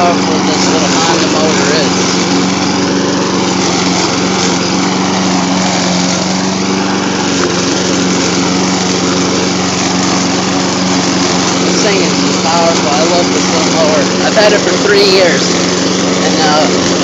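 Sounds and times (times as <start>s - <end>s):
lawn mower cutting grass: 0.0s - 17.0s.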